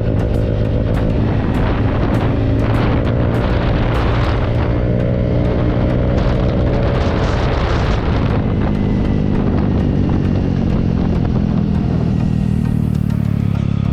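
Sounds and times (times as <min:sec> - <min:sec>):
scooter engine running: 0:00.0 - 0:13.9.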